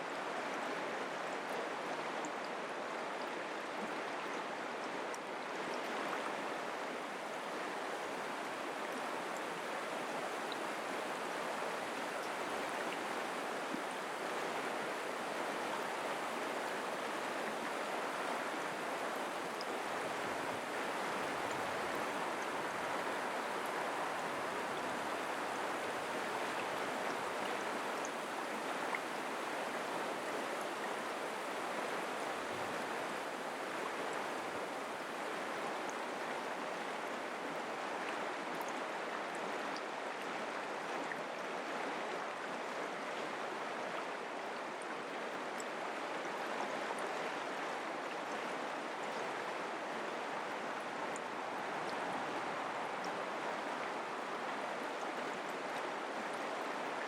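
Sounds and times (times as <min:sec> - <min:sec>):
creek water flowing over rocks: 0:00.0 - 0:57.0.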